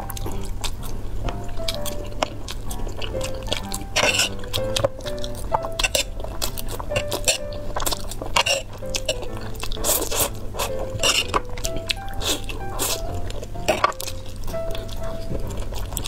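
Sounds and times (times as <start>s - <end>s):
background music: 0.0s - 16.0s
person slurping and chewing noodles: 0.0s - 16.0s.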